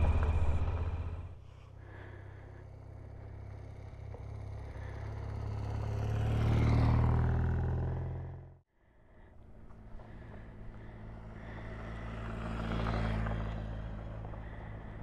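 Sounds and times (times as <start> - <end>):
motorcycle engine running: 0.0 - 8.6, 9.6 - 15.0.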